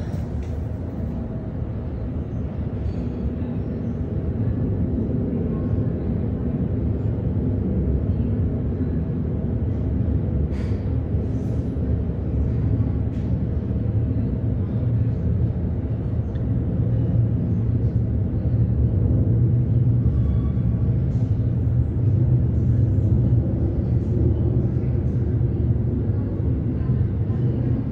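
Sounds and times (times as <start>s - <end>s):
distant jet engines rumbling: 0.0s - 27.9s.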